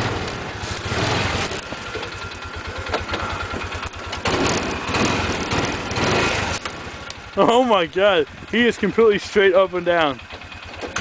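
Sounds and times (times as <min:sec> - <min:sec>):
utility vehicle engine pulsing: 0:00.0 - 0:11.0.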